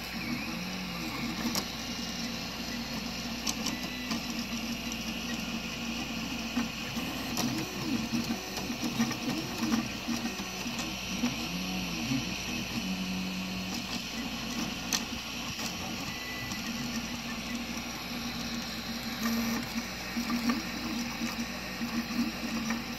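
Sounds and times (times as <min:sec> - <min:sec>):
cooling fans hissing: 0:00.0 - 0:22.9
stepper motors whining: 0:00.0 - 0:22.9.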